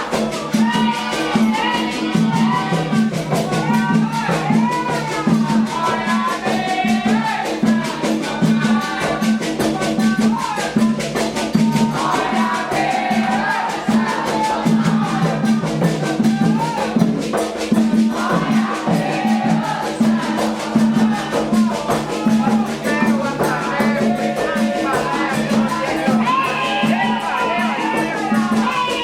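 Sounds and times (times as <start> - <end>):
hand drums beating: 0.0 - 29.0
rattling percussion: 0.0 - 29.0
voices singing: 0.0 - 29.0.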